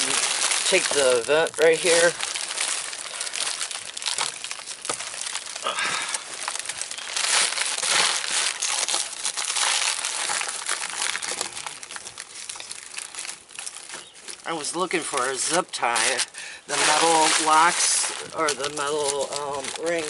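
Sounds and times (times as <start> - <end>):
plastic crinkling and rustling: 0.0 - 20.0.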